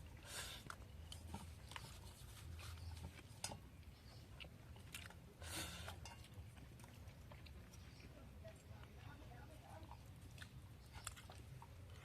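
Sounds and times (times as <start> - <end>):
chewing with clicks and smacks: 0.0 - 12.0.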